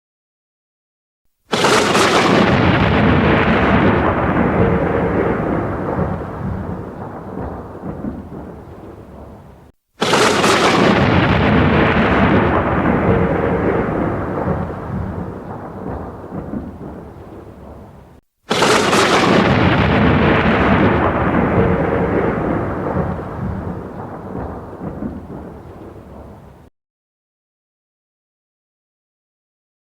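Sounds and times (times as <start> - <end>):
thunder crashing and rumbling: 1.5 - 26.7.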